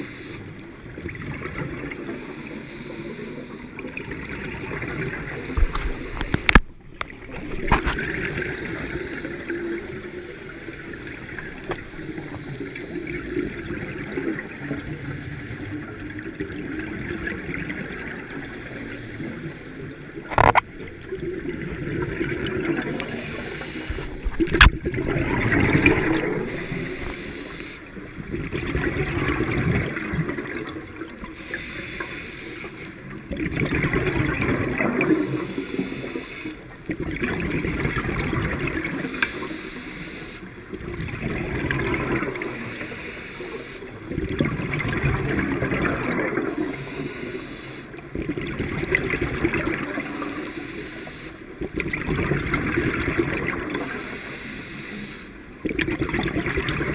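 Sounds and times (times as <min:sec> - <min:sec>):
waves washing in: 0:00.0 - 0:56.9.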